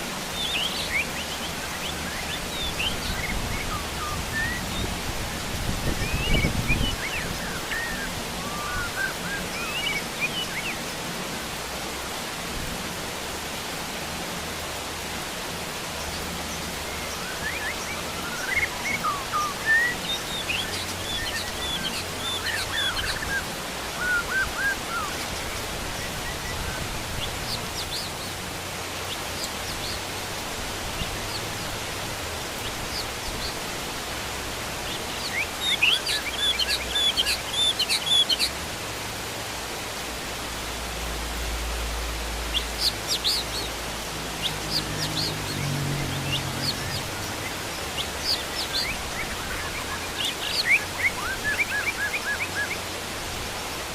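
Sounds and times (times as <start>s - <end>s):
birds chirping: 0.0s - 12.3s, 13.5s - 38.6s, 40.5s - 53.9s
heavy rain on bamboo and pond: 0.0s - 53.9s.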